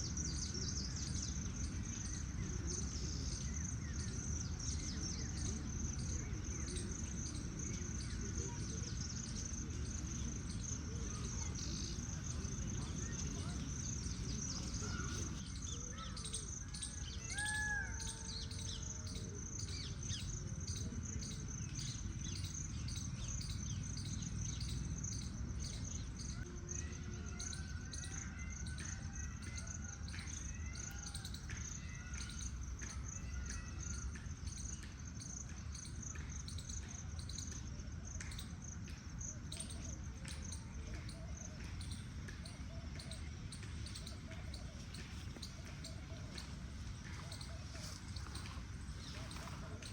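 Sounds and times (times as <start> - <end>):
birds chirping and calling: 0.0 - 37.6, 38.2 - 49.9.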